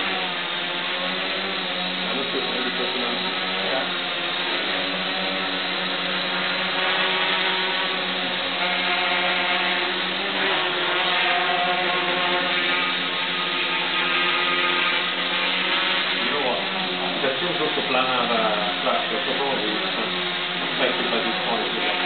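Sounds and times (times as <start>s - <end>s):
drone motors humming: 0.0s - 22.0s.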